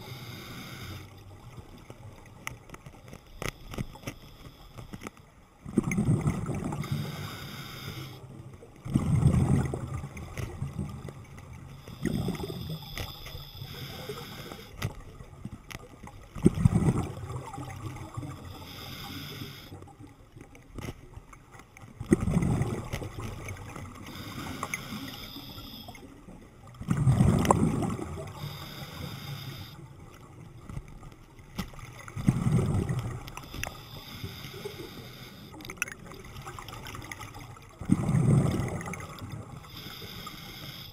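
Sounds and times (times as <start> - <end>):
underwater water noise: 0.0 - 40.9
exhaled bubbles gurgling: 5.6 - 21.3, 21.9 - 40.9.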